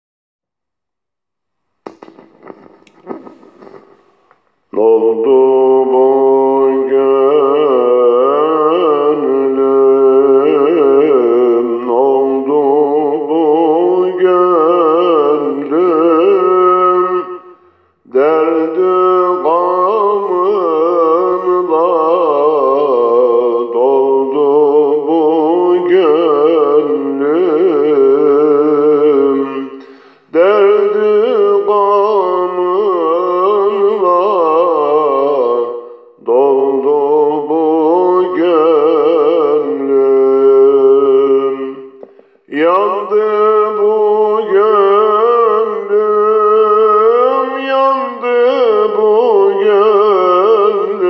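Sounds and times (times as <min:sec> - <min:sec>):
man singing unaccompanied hymn: 0:04.7 - 0:51.0.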